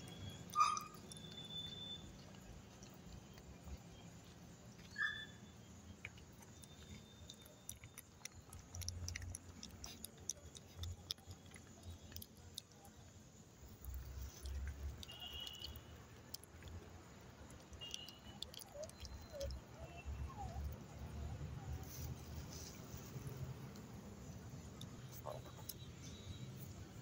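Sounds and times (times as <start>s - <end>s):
puppy lapping and chewing food: 0.0s - 26.8s.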